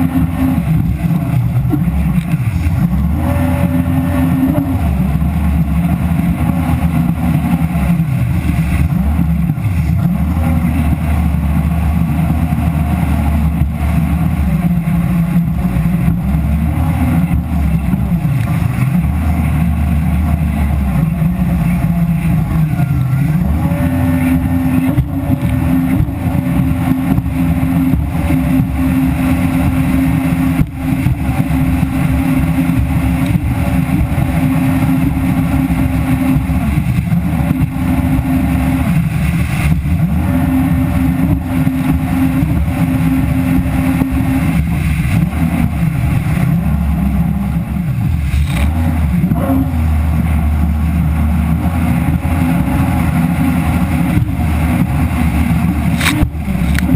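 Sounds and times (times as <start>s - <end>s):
jet ski engine running: 0.0s - 56.9s.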